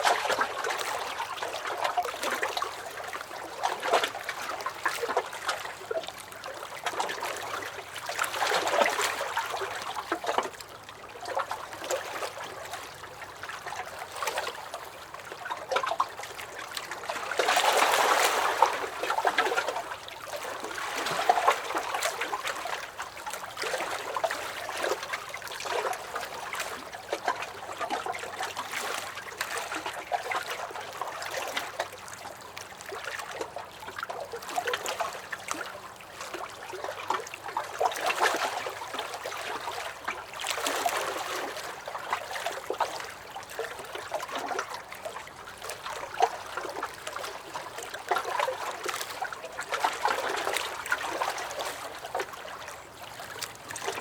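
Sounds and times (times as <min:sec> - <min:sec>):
waves lapping against a dock: 0:00.0 - 0:54.0.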